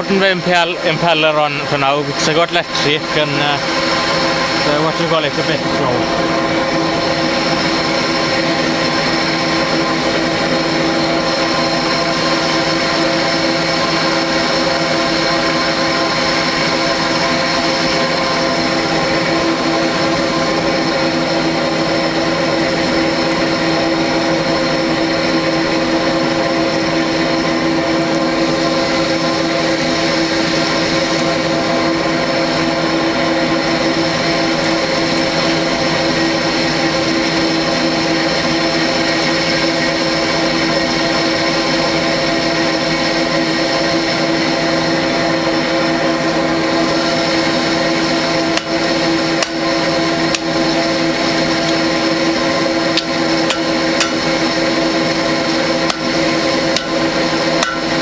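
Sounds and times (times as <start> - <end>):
electric blower running: 0.0 - 39.8, 45.4 - 58.0.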